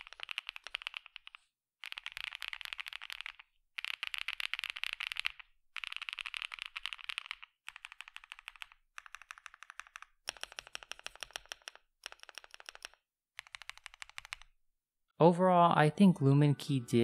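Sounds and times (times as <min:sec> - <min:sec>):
fast typing on mechanical keyboard: 0:00.0 - 0:14.6.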